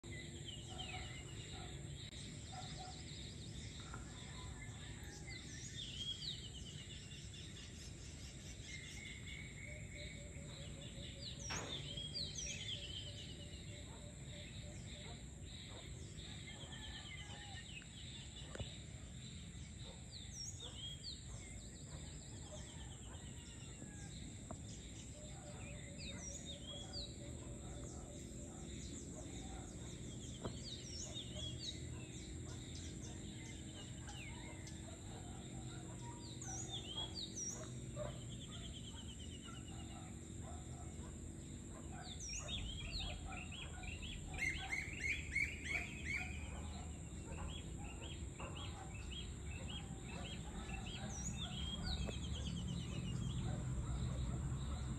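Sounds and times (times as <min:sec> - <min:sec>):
birds chirping and trilling: 0:00.0 - 0:54.9
high insect hum: 0:00.0 - 0:54.9.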